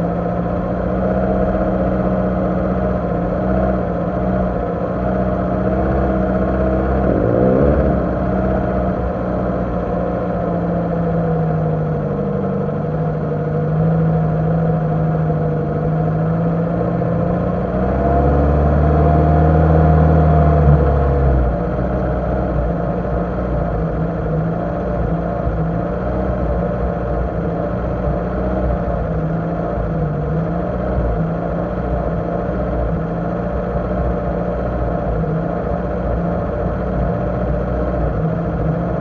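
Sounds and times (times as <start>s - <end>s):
car engine running at low revs: 0.0s - 39.0s.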